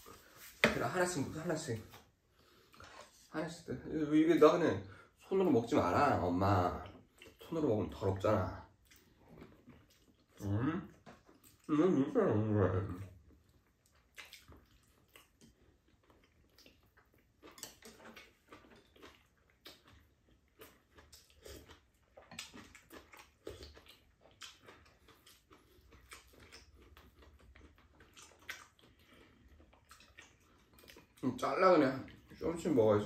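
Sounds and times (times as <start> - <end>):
quiet chewing: 0.0 - 3.3, 4.9 - 12.1, 12.8 - 33.0.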